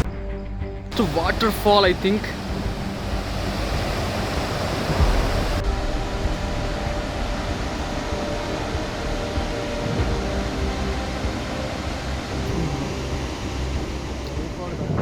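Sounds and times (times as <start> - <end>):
steady rushing noise: 0.0 - 15.0
wind thumps on microphone: 1.0 - 15.0.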